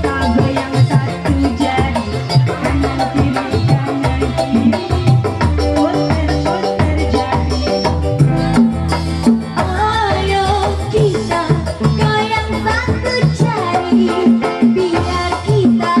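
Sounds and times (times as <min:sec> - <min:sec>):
woman singing: 0:00.0 - 0:08.7, 0:09.5 - 0:16.0
bass: 0:00.0 - 0:16.0
hand drums: 0:00.0 - 0:16.0.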